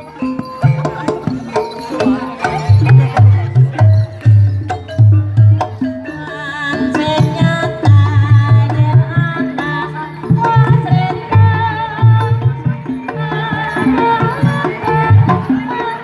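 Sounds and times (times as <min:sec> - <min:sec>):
hand drums beating: 0:00.0 - 0:16.0
wavering high melody: 0:00.0 - 0:16.0.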